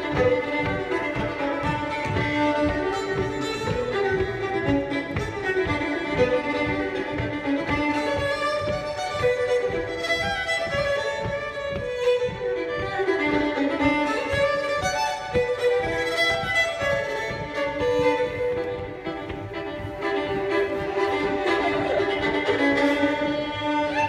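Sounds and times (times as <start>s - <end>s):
fiddle playing a lively hornpipe: 0.0s - 24.0s.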